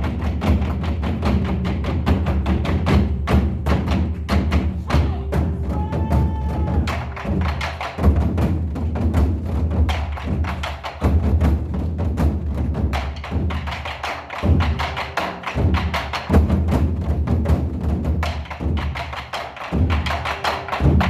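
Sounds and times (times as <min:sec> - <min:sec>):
drums beaten fast: 0:00.0 - 0:21.0.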